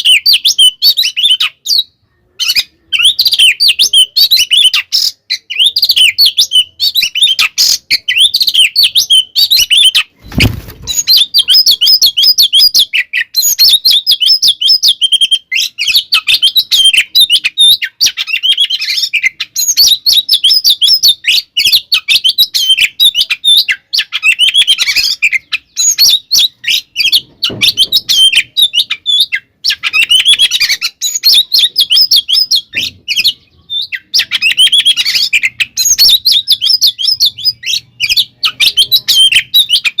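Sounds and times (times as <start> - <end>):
songbird singing agitated whistles: 0.0 - 40.0.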